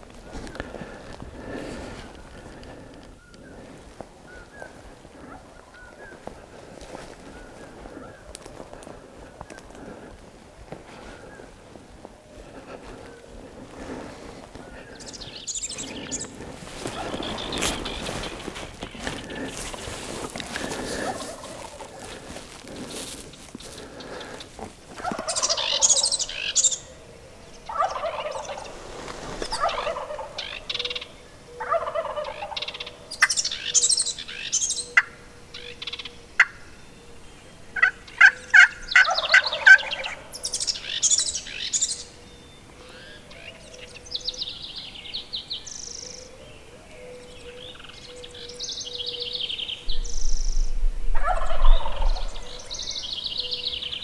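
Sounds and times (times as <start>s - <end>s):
turkeys gobbling: 0.0s - 36.7s, 37.7s - 42.1s, 51.1s - 53.9s
songbirds trilling: 0.0s - 54.0s.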